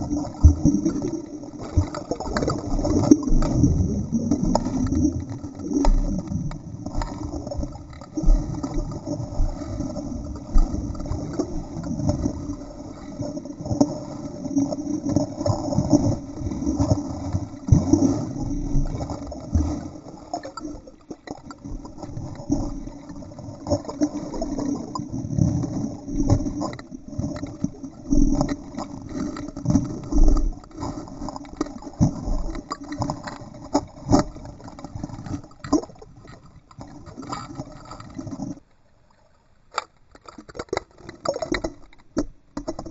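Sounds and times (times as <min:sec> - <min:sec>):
muffled water sloshing underwater: 0:00.0 - 0:42.9.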